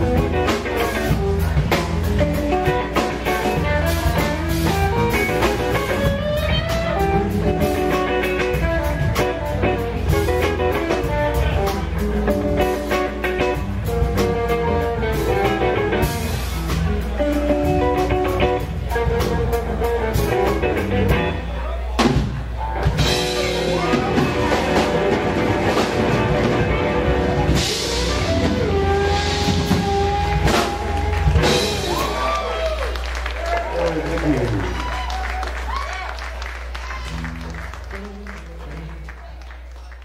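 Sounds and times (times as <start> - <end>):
electric guitar lead with bent notes: 0.0 - 32.4
bass: 0.0 - 40.0
drums: 0.0 - 40.0.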